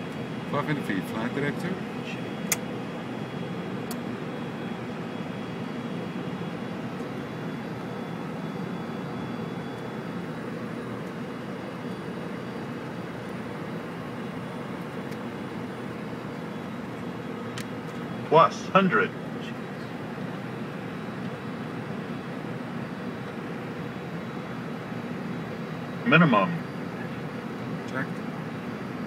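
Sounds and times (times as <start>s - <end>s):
aircraft engine noise: 0.0s - 29.0s.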